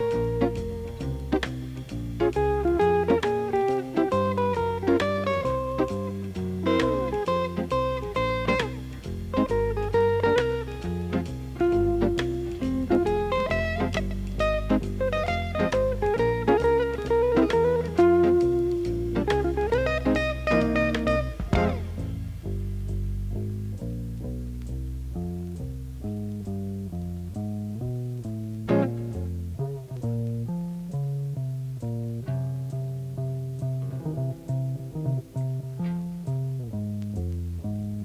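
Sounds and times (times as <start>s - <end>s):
instrumental guitar and bass music: 0.0s - 38.0s
plucked guitar notes: 0.0s - 38.0s.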